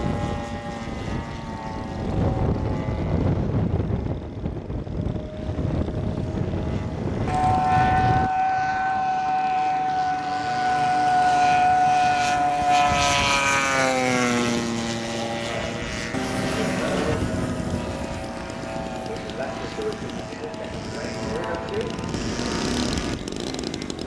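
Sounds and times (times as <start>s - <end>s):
low rumbling noise: 0.0s - 24.0s
model plane engine passing: 0.0s - 24.0s.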